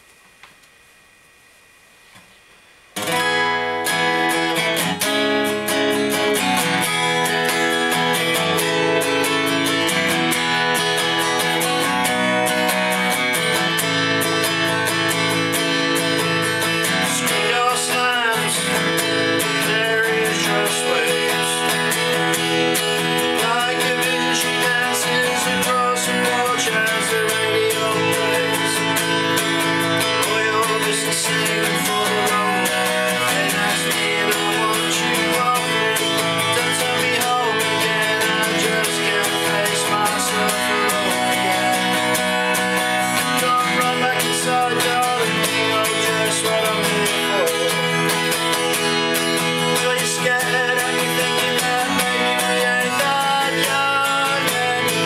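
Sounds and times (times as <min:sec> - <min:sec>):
acoustic guitar strummed chords: 0:02.9 - 0:55.0.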